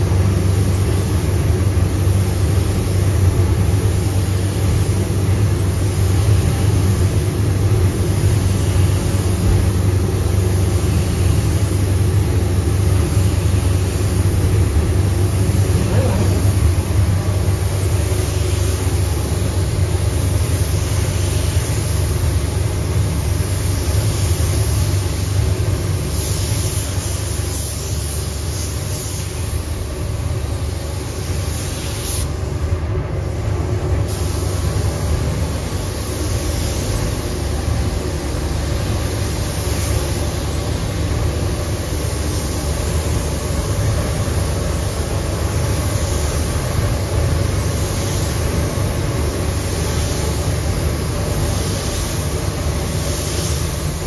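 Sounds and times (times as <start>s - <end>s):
air system rumble: 0.0s - 54.0s
spray gun hissing: 0.0s - 54.0s.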